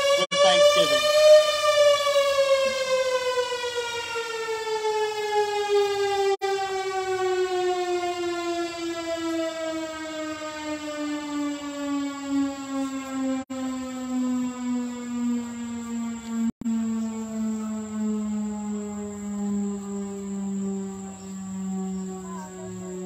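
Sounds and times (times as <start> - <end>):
mechanical siren winding down: 0.0 - 23.0.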